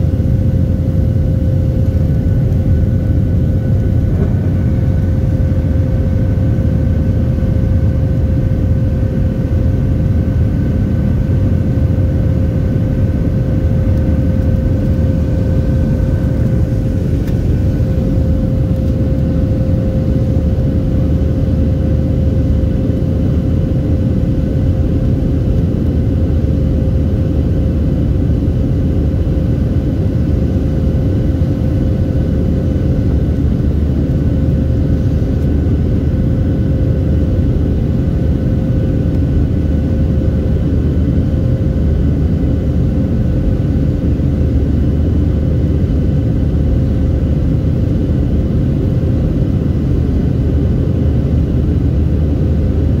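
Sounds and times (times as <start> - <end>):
jet engines drone: 0.0 - 53.0.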